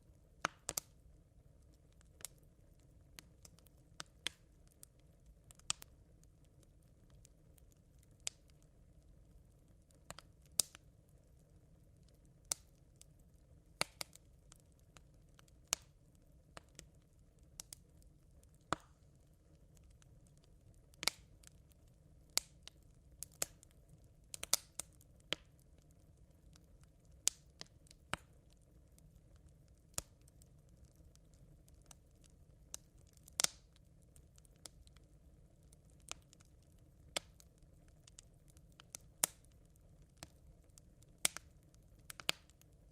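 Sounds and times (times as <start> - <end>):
campfire coals crackling: 0.0 - 42.9
low steady hiss: 0.0 - 42.9.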